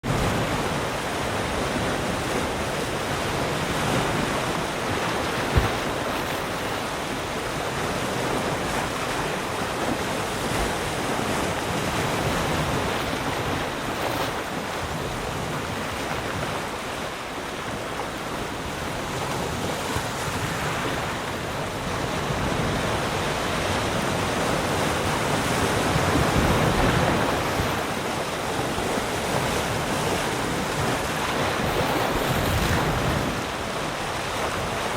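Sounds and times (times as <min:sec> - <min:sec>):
ocean waves lapping around rocks: 0:00.0 - 0:34.9.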